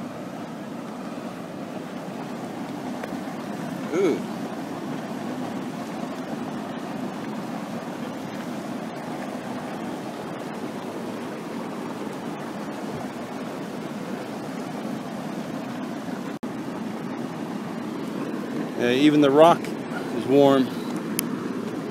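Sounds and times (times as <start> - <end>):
hot water boiling: 0.0 - 21.9.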